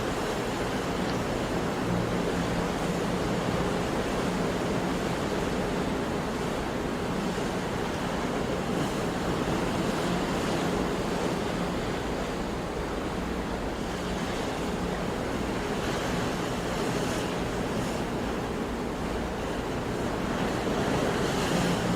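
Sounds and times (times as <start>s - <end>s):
sea surf washing: 0.0s - 21.9s.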